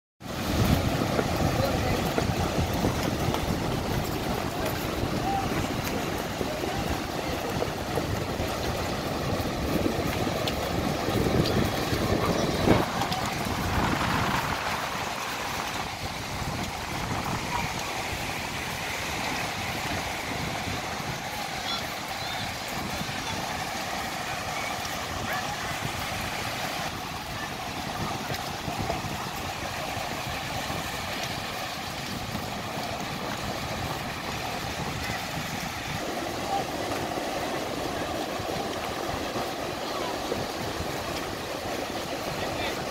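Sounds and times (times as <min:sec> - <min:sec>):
surf breaking on sand: 0:00.2 - 0:42.9
wind buffeting microphone: 0:00.2 - 0:42.9.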